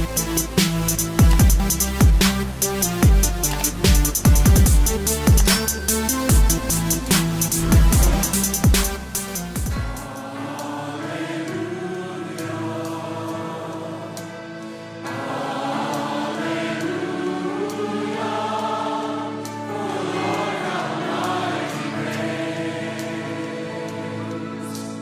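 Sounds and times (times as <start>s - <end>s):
choir singing over sustained chords: 0.0s - 25.0s.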